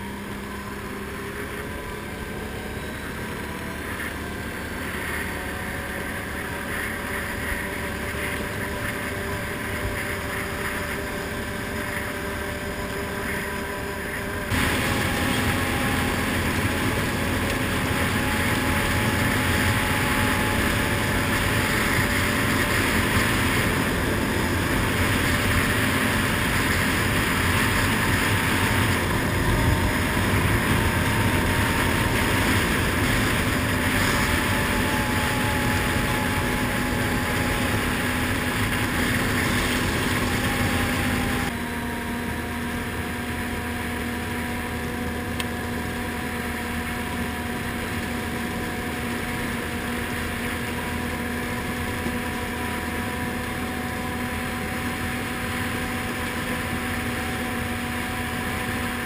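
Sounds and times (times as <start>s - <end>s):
quad bike engine running: 0.0s - 41.6s, 42.4s - 59.0s.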